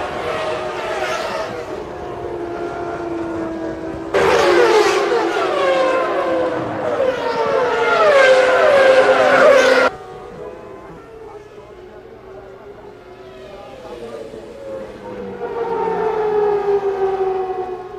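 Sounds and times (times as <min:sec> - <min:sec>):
racing car engines downshifting: 0:00.0 - 0:17.9.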